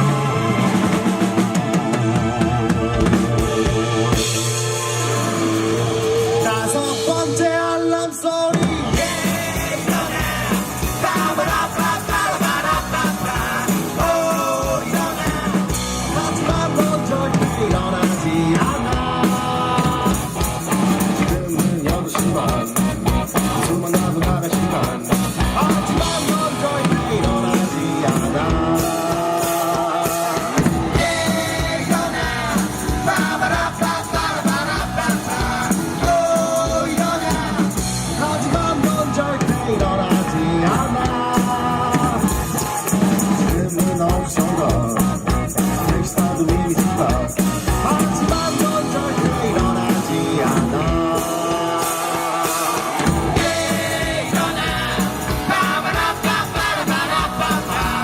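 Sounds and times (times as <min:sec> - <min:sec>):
drum kit: 0:00.0 - 0:58.0
person singing lead vocal: 0:00.0 - 0:58.0
rock band playing: 0:00.0 - 0:58.0.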